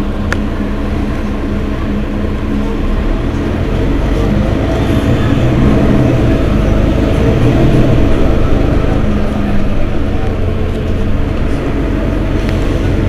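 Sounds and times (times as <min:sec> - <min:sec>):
bus engine idling rumble: 0:00.0 - 0:13.0.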